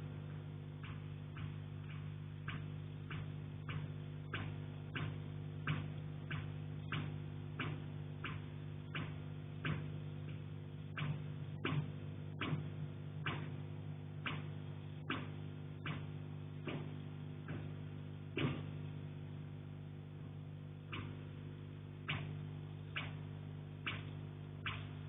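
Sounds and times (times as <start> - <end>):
low hum: 0.0 - 25.0
sharp ticks: 0.7 - 18.8, 20.9 - 25.0.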